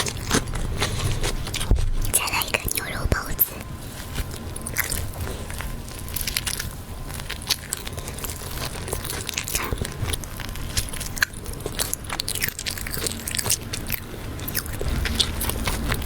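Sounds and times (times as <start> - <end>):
chewing and biting meat: 0.0 - 16.0.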